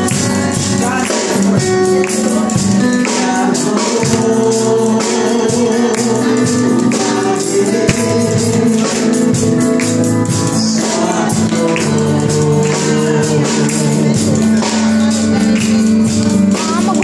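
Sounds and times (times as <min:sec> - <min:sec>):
hand claps: 0:00.0 - 0:04.6, 0:05.8 - 0:17.0
man singing through microphone: 0:00.0 - 0:17.0
tambourine beat: 0:00.0 - 0:17.0.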